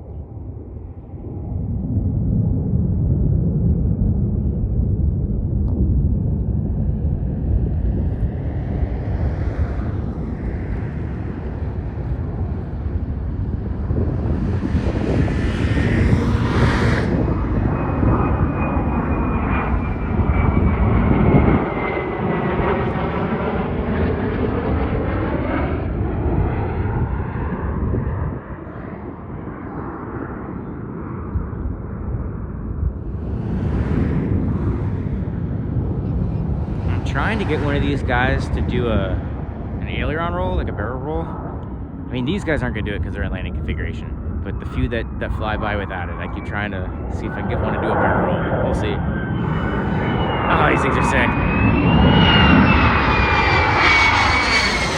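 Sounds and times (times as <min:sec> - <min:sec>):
fighter jet roar: 0:00.1 - 0:54.9
high jet whine falling in pitch: 0:00.2 - 0:54.9.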